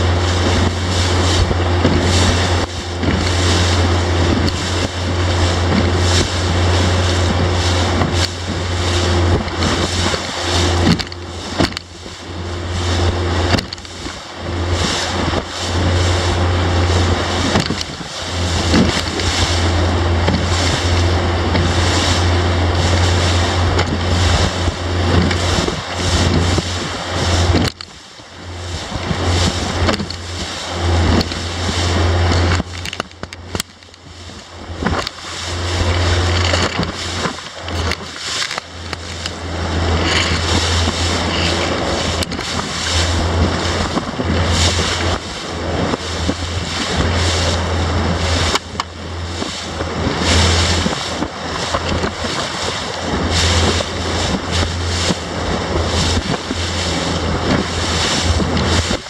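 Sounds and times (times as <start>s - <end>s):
deep rumble: 0.0s - 59.0s
water rushing: 0.0s - 59.0s
wind buffeting microphone: 0.0s - 59.0s.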